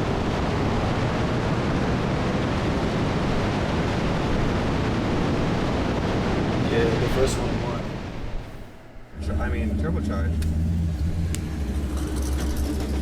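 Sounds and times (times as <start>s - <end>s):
road noise from car: 0.0s - 13.0s.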